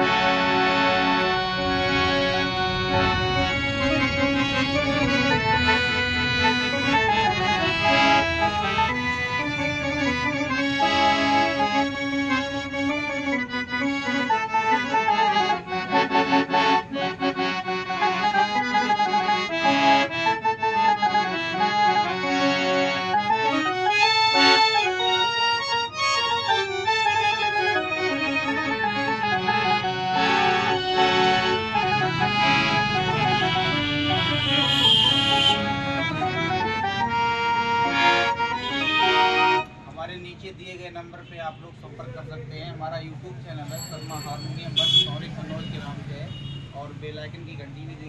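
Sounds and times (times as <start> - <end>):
harmonium playing sustained reedy notes: 0.0 - 42.3, 43.0 - 47.9.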